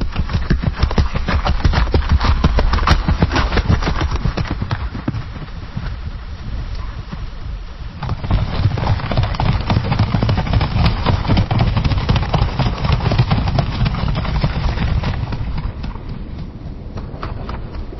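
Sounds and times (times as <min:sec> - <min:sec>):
horse hoofbeats on dirt: 0:00.0 - 0:17.9.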